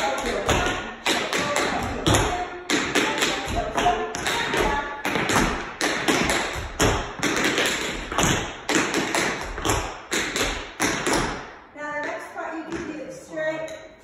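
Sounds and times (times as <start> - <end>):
tap shoes on wooden floor: 0.0 - 13.8.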